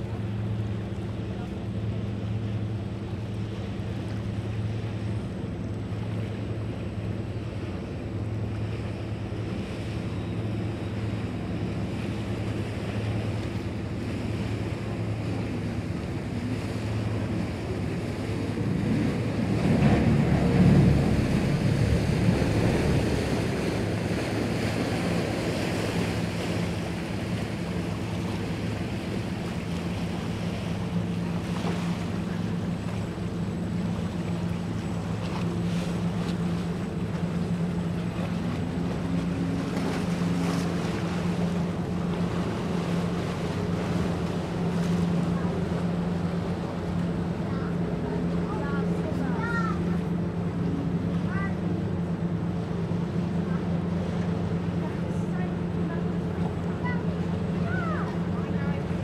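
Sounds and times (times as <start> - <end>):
ferry engine humming: 0.0 - 59.0
rushing water: 0.0 - 59.0
wind: 0.0 - 59.0.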